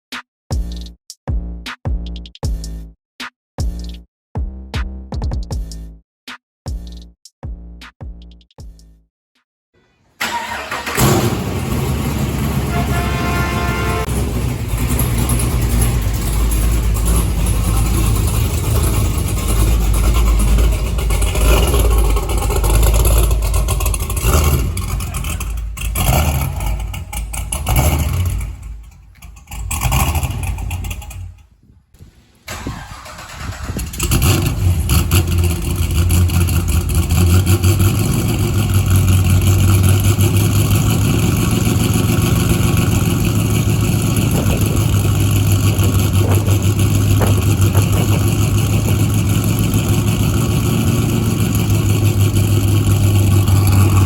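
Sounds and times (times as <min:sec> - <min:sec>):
car engine starting and idling: 0:10.0 - 0:54.0.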